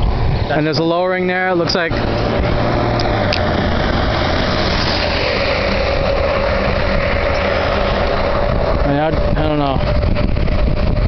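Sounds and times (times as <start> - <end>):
low engine hum: 0.0 - 11.0
rush of vehicle noise: 0.0 - 11.0.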